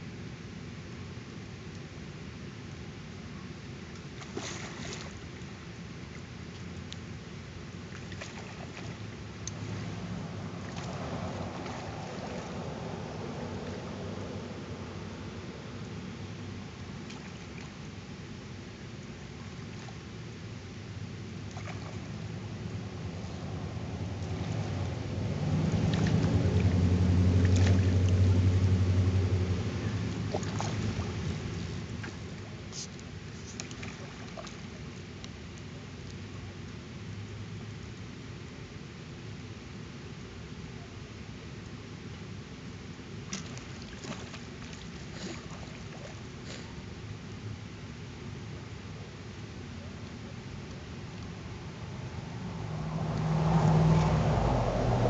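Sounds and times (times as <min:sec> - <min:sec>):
low engine hum: 0:00.0 - 0:55.0
wind: 0:00.0 - 0:55.0
water lapping at shore: 0:03.8 - 0:38.2, 0:41.5 - 0:55.0.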